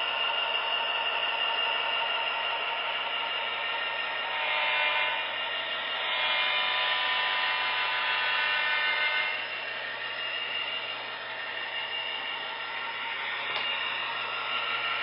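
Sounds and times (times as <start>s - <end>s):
model train motor whine: 0.0s - 15.0s.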